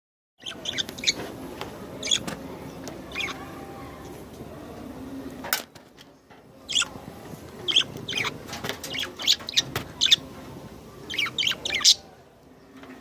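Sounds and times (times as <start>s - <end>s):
small birds chirping: 0.4s - 4.2s, 6.1s - 13.0s.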